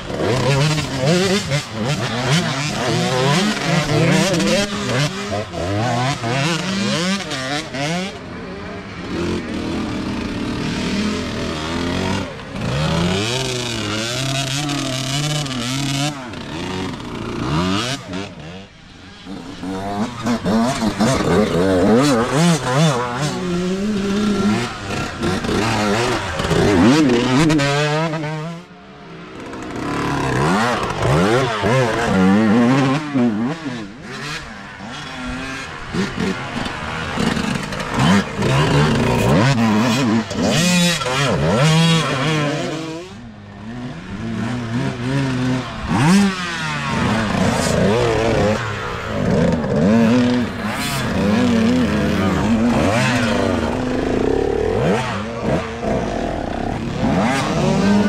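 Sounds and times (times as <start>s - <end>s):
dirt bike engines revving: 0.0s - 58.0s
dirt bike passing: 0.0s - 58.0s.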